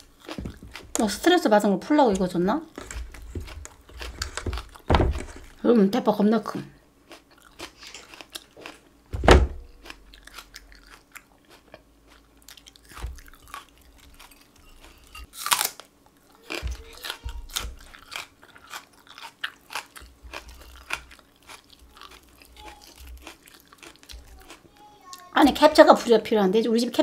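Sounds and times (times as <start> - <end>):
crunchy chewing: 0.0 - 1.3, 2.2 - 5.6, 7.0 - 9.0, 9.6 - 25.3.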